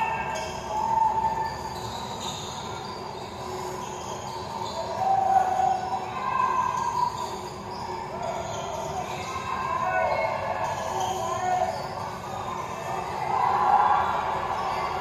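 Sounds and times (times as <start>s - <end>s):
crowd noise: 0.0s - 15.0s.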